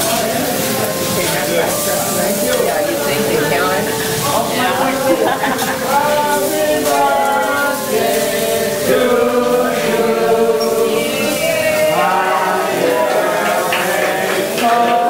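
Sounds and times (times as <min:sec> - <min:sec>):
voices chanting: 0:00.0 - 0:15.0.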